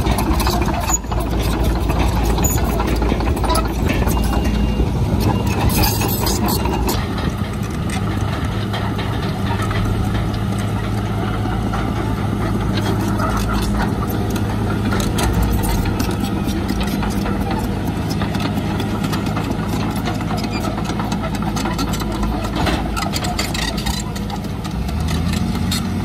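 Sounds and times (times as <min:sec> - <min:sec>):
bulldozer diesel engine running: 0:00.0 - 0:26.0
clanks and rattles: 0:00.0 - 0:26.0.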